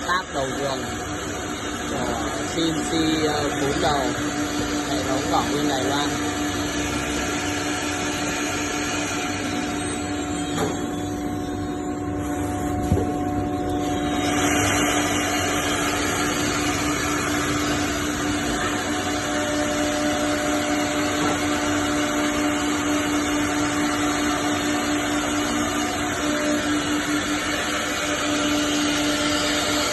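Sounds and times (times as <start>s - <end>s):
cnc router machining: 0.0s - 29.9s
steady machine tone: 0.0s - 29.9s.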